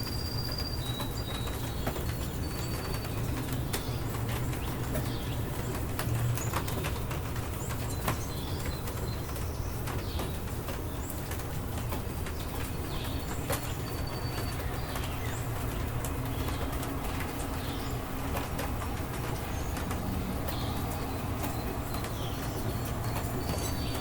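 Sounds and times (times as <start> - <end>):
birds chirping: 0.0 - 24.0
drips ticking: 0.0 - 24.0
steady rain: 0.0 - 24.0.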